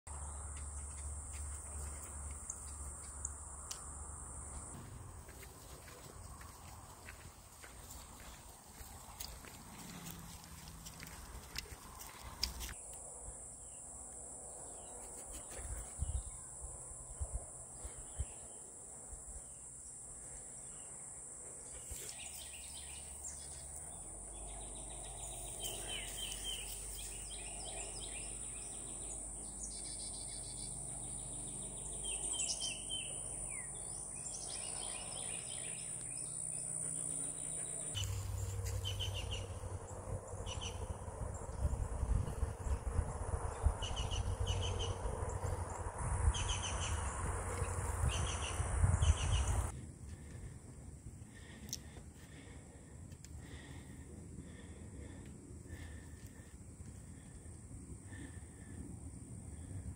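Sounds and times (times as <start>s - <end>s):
songbirds chirping: 0.1s - 16.7s, 17.4s - 50.5s, 51.2s - 59.9s.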